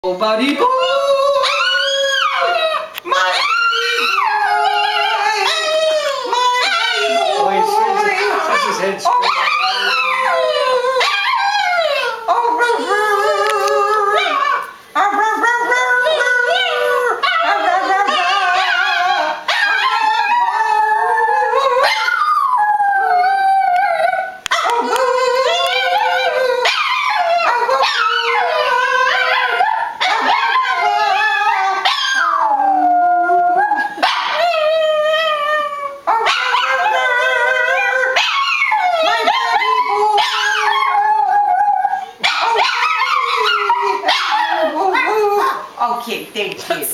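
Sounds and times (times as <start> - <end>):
dog howling: 0.7 - 45.7.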